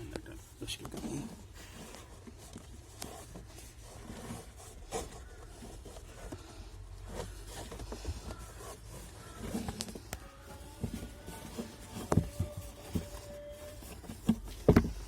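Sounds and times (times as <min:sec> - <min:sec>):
hands scraping and rustling: 0:00.0 - 0:15.0.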